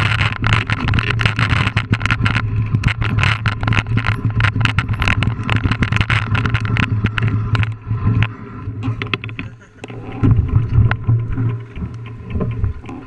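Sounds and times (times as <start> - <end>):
bike rattling over rocks: 0.0 - 13.0
low hum: 0.0 - 13.0.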